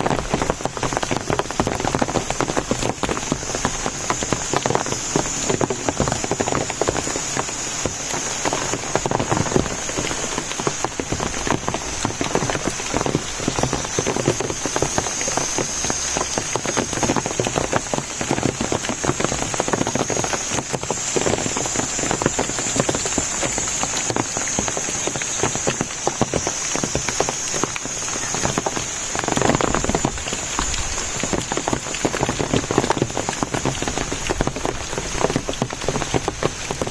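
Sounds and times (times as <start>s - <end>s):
constant high-pitched tone: 0.0s - 36.9s
steady rain falling: 0.0s - 36.9s.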